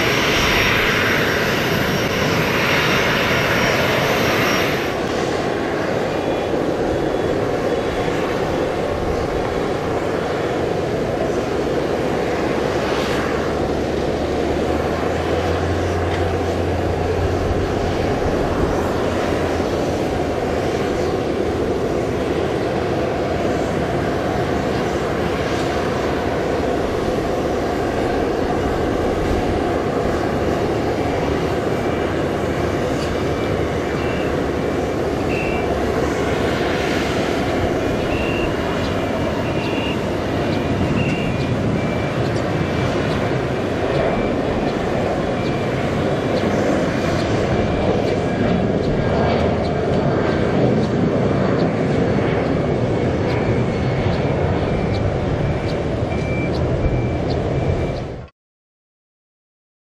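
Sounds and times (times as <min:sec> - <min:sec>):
jet engines rushing at takeoff: 0:00.0 - 0:58.3.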